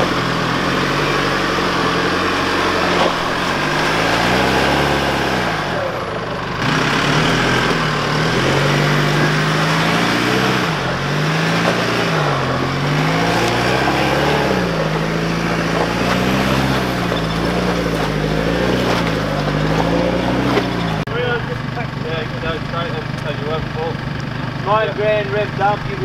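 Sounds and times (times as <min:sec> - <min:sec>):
engine revving under load: 0:00.0 - 0:26.0.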